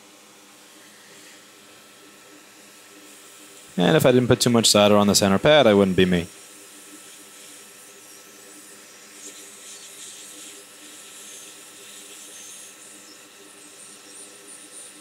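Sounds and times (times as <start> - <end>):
soldering iron sizzling: 0.0 - 15.0
steady hiss: 0.0 - 15.0.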